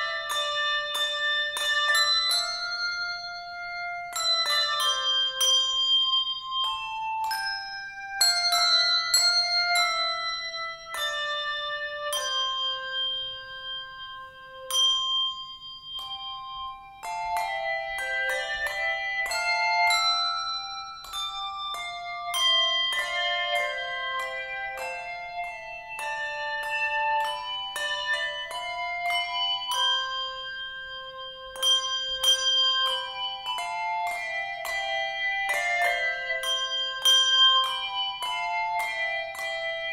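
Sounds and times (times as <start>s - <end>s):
handbell choir ringing: 0.0s - 39.9s.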